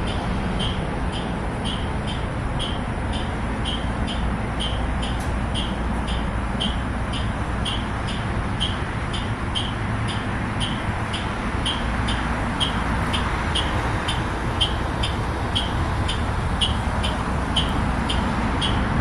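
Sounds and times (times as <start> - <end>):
high double beeps: 0.0 - 18.9
bus steady hum: 0.0 - 19.0.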